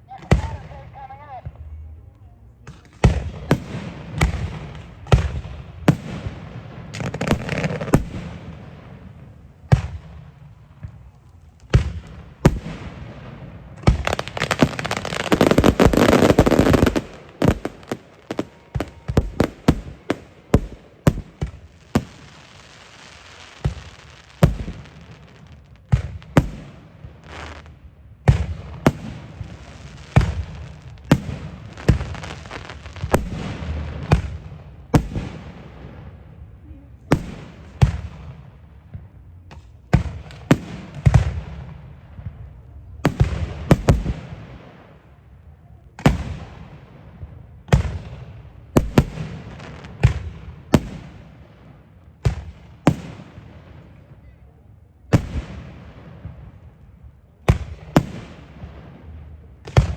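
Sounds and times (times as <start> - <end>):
fireworks bangs: 2.6 - 45.3, 45.9 - 54.3, 55.1 - 59.9
fireworks crackling and hissing: 2.7 - 54.2, 55.0 - 59.9.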